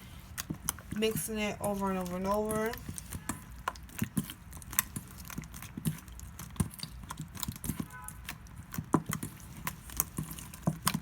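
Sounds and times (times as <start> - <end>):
slime squelching: 0.0 - 11.0.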